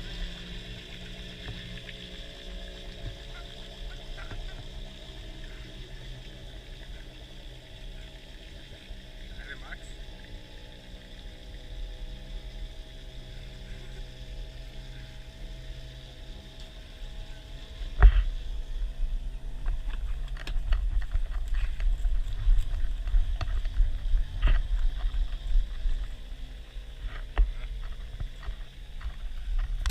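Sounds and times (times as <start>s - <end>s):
two-stroke engine running: 0.0s - 29.9s
uneven low rumble with clicks: 0.0s - 29.9s.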